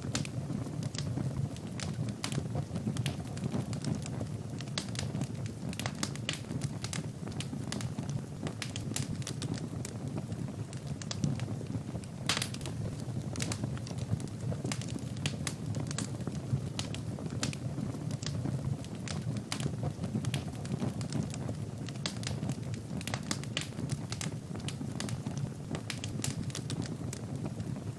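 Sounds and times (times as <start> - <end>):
logs crackling and popping: 0.0 - 27.9
low roar of flames: 0.0 - 27.9.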